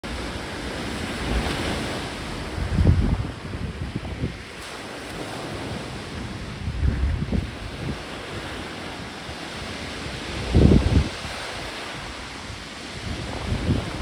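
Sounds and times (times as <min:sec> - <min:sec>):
surf breaking on pebbles: 0:00.0 - 0:14.0
wind buffeting microphone: 0:00.0 - 0:14.0.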